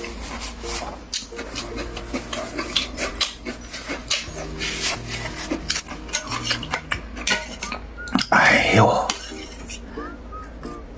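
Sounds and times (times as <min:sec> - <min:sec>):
person chewing and slurping noodles: 0:00.0 - 0:09.8.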